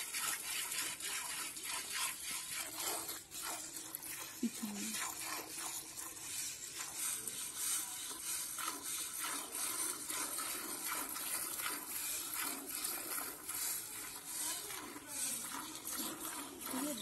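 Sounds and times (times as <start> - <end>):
milk squirting into steel pail: 0.0 - 17.0.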